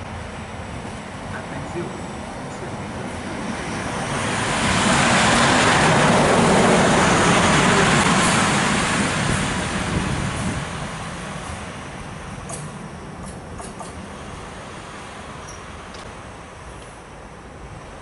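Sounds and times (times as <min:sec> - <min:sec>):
electric locomotive passing: 0:00.0 - 0:18.0.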